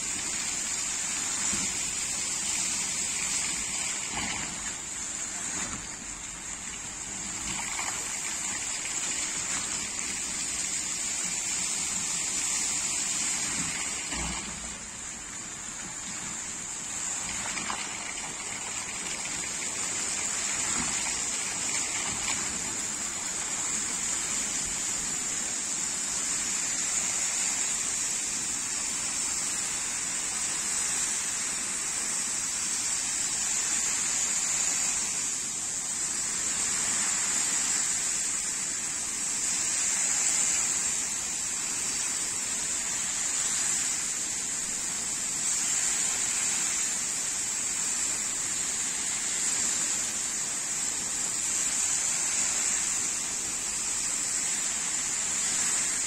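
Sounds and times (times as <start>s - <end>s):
fountain water jets rushing: 0.0s - 56.0s.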